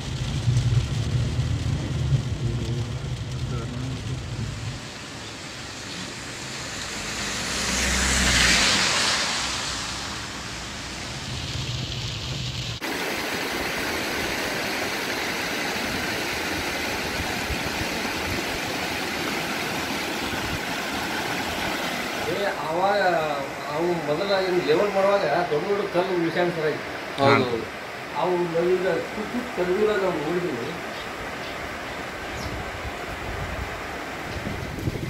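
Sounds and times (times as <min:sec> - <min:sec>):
rain and running floodwater: 0:00.0 - 0:35.0
tyre hiss on wet road: 0:00.0 - 0:35.0.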